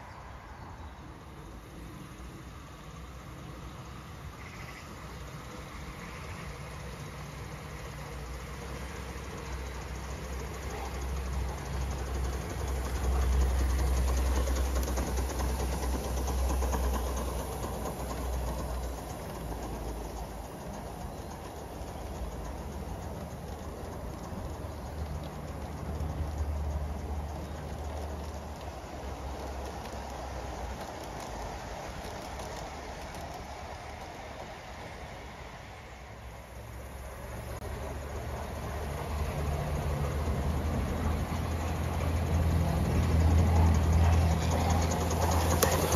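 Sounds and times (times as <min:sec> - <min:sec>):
wheels rumbling on track: 0:00.0 - 0:45.9
model steam locomotive exhaust beats: 0:00.9 - 0:45.9.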